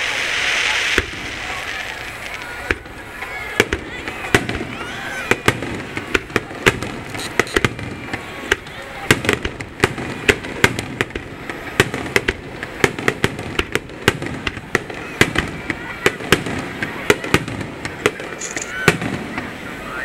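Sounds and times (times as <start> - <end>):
crowd voices: 0.0 - 20.0
fireworks bangs: 0.0 - 20.0.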